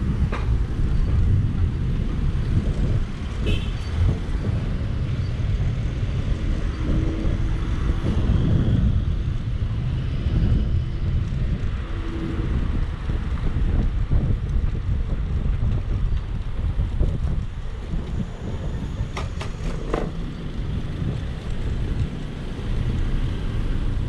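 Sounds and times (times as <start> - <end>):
road rumble: 0.0 - 24.0
wind buffeting microphone: 0.0 - 24.0.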